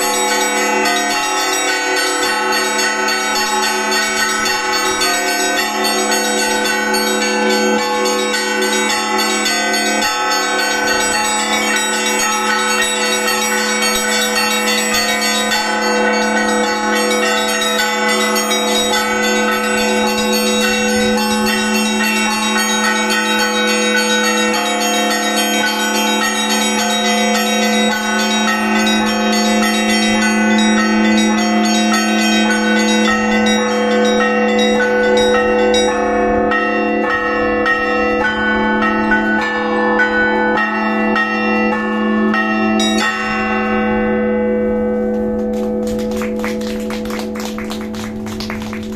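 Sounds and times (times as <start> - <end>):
church bells pealing: 0.0 - 48.9.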